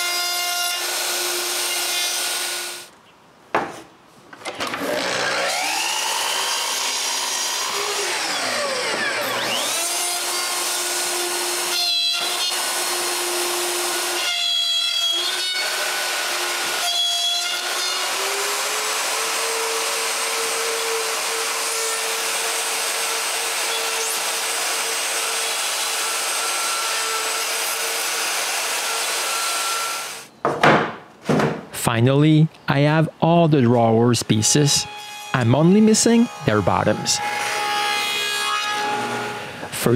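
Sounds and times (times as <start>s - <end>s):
electric router cutting wood: 0.0s - 2.9s, 4.6s - 30.3s, 34.7s - 39.9s.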